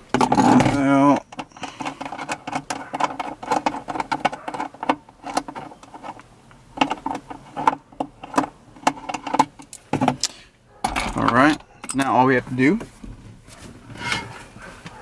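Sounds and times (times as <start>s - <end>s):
bolts clicking and rattling in a bin: 0.0s - 12.9s.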